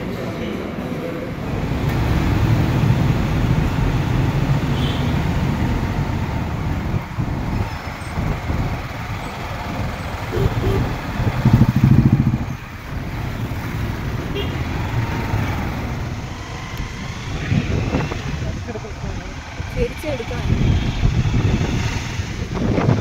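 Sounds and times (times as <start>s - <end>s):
trucks passing close by: 0.0s - 23.0s
wind and road noise: 0.0s - 23.0s
motorcycle engine: 1.4s - 22.7s.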